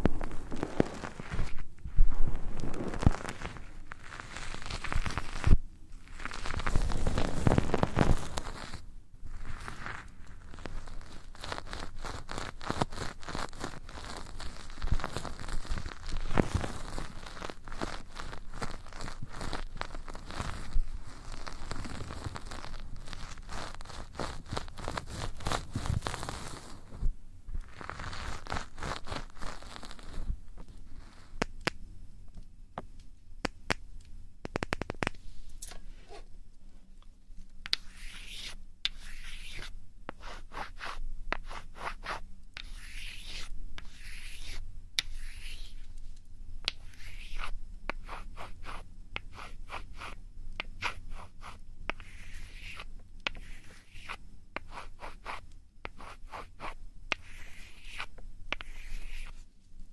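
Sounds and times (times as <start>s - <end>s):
scratching and rubbing on microphone: 0.0s - 31.4s, 37.7s - 46.0s, 46.7s - 59.5s.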